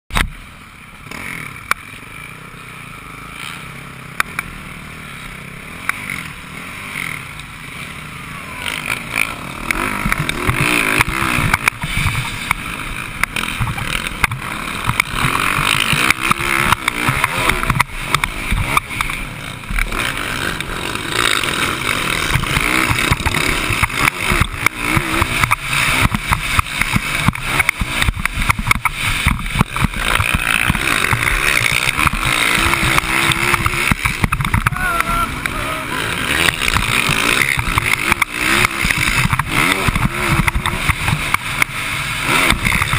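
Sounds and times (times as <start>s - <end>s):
dirt bike engine revving: 0.1s - 42.9s.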